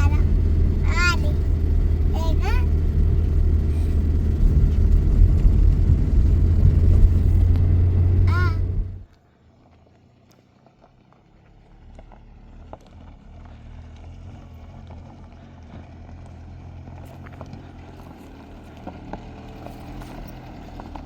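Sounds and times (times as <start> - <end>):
engine humming: 0.0 - 9.2, 9.9 - 21.0.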